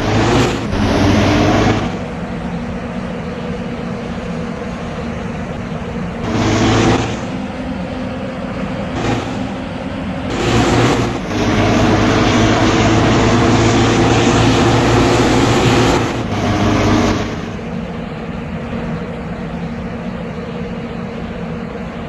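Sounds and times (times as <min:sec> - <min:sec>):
bus diesel engine running: 0:00.0 - 0:22.0
steady traffic noise: 0:00.0 - 0:22.0.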